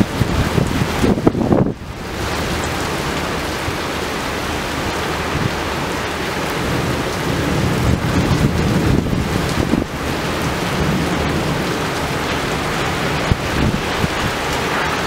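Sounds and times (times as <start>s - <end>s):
heavy rain pouring: 0.0s - 15.0s
thunder rumble: 0.0s - 15.0s
wind buffeting microphone: 0.0s - 15.0s.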